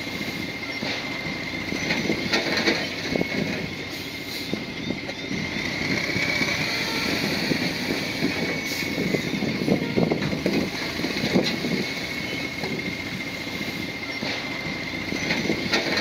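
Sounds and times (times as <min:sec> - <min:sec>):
bulldozer diesel engine running: 0:00.0 - 0:16.0
tracks clanking: 0:00.0 - 0:16.0.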